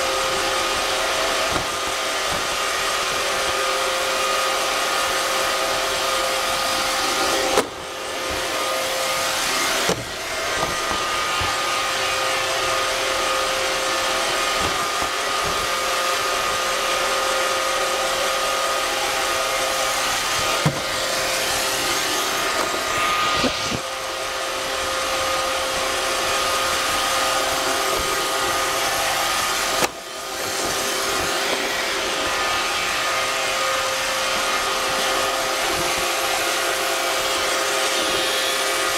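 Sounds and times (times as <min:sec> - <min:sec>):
robot vacuum motor whine: 0:00.0 - 0:38.9.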